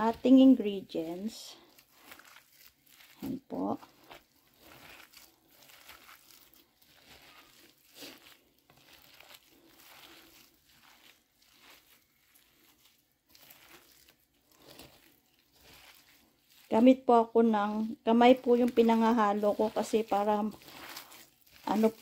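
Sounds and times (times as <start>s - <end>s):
hands squishing raw minced meat: 0.0s - 22.0s.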